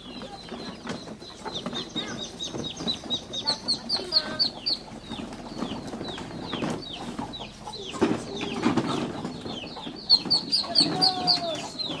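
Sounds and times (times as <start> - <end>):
chicks peeping: 0.0 - 12.0
soft lower chick calls: 0.0 - 12.0.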